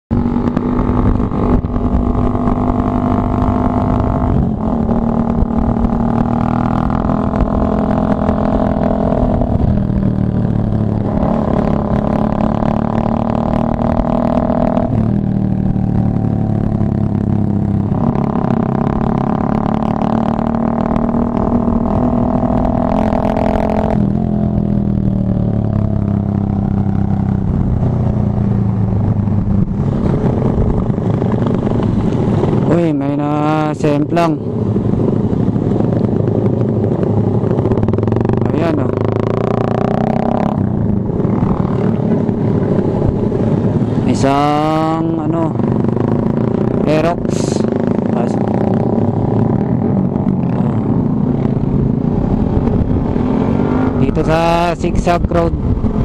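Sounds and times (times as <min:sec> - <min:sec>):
motorcycle engine running: 0:00.1 - 0:56.0.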